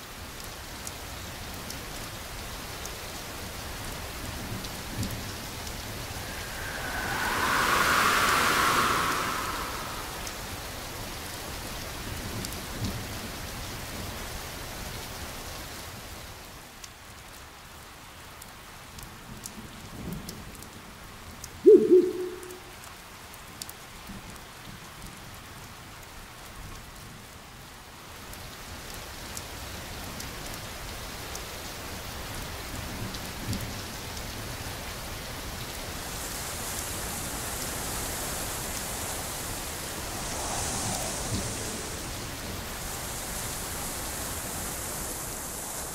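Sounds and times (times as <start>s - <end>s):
steady rain: 0.0s - 21.6s, 22.2s - 45.9s.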